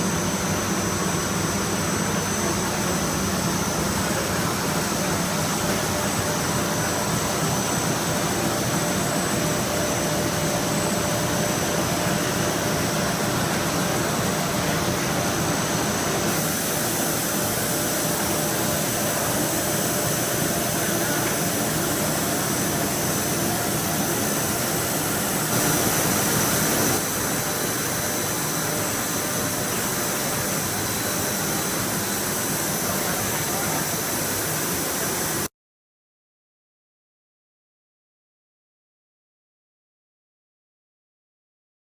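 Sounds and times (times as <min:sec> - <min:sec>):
machine hum and hiss: 0:00.0 - 0:35.5.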